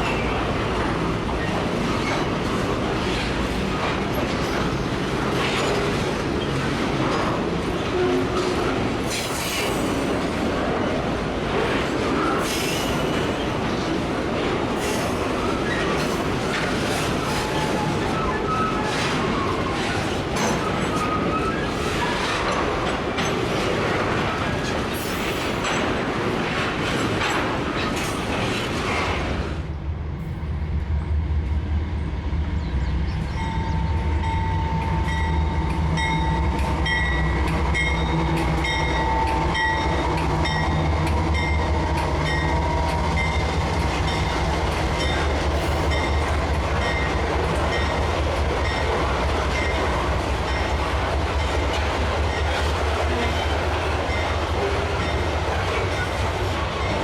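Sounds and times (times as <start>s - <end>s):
train wheels clattering on rails: 0.0s - 29.6s, 33.1s - 57.0s
diesel locomotive engine drone: 0.0s - 57.0s.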